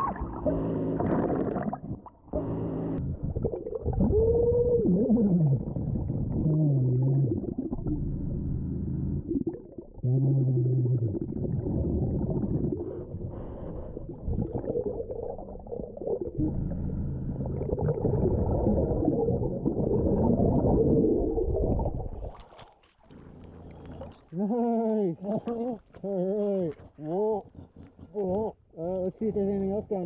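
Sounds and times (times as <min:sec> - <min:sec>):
underwater regulator breathing bubbles: 0:00.0 - 0:24.4.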